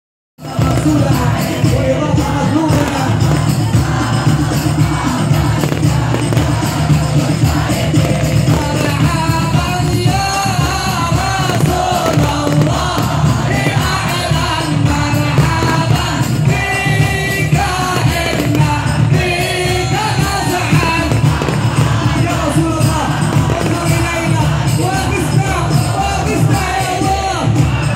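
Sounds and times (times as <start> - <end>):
crowd singing devotional song: 0.4 - 27.9
low percussion beat: 0.4 - 27.9.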